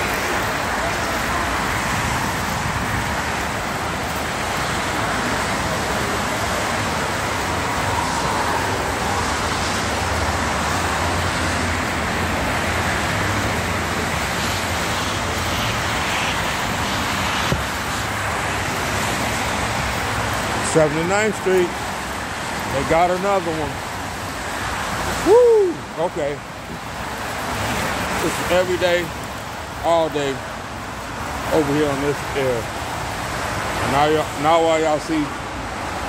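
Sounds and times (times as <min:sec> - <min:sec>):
expressway traffic rushing: 0:00.0 - 0:36.0.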